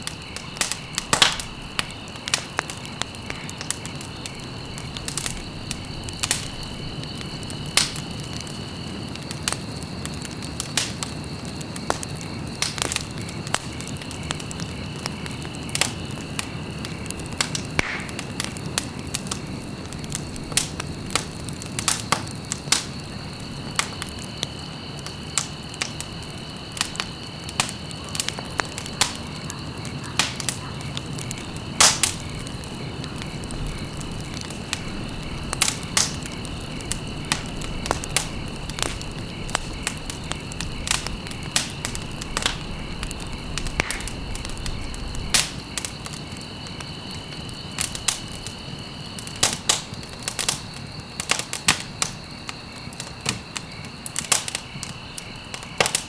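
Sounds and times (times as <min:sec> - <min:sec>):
low rushing of fire: 0:00.0 - 0:56.0
wood fire crackling and popping: 0:00.0 - 0:56.0.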